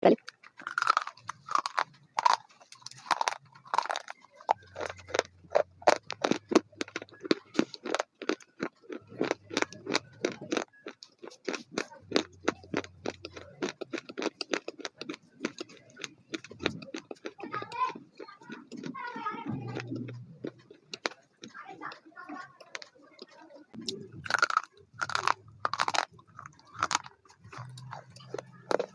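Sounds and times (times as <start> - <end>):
crunchy food being chewed: 0.2 - 28.9.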